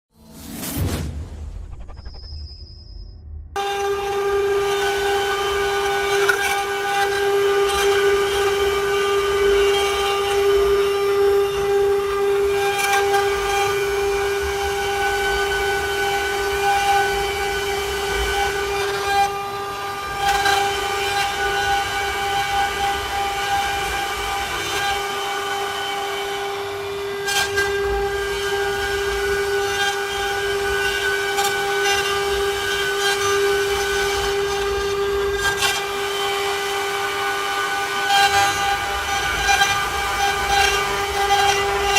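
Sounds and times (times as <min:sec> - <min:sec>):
router spindle whining: 0:03.5 - 0:41.9.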